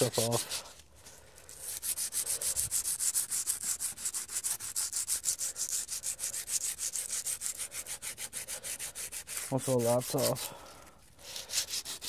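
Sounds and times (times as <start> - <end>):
sandpaper rubbing on metal wheel: 0.0 - 0.8, 1.6 - 10.5, 11.2 - 12.0.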